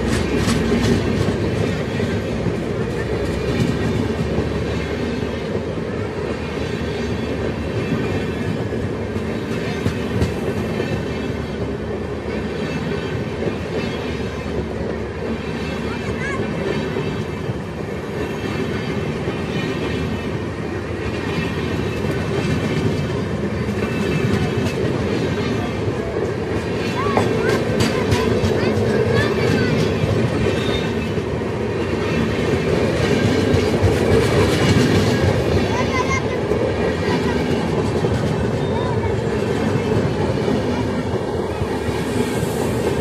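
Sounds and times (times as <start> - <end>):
clickety-clack over rail joints: 0.0 - 43.0
train wheels rumbling on rails: 0.0 - 43.0.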